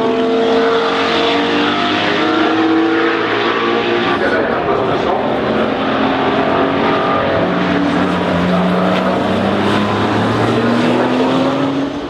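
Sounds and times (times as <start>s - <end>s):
racing car engine running hard: 0.0s - 12.0s.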